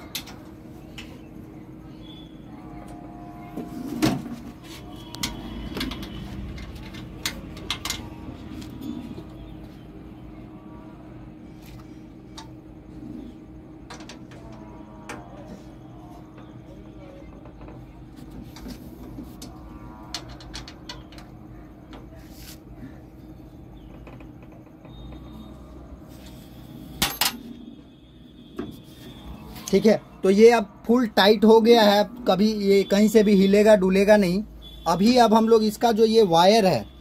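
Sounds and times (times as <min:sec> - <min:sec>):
steady low hum: 0:00.0 - 0:34.8.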